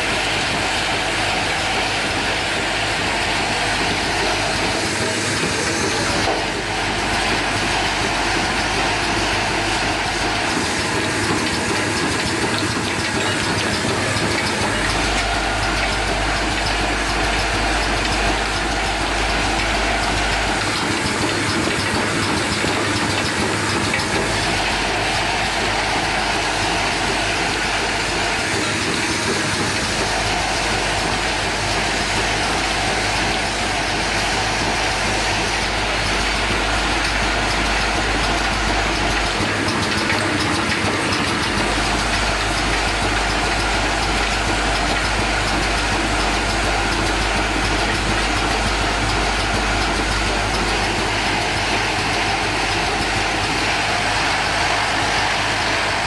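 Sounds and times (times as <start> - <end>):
machine clattering with hiss: 0.0 - 56.0.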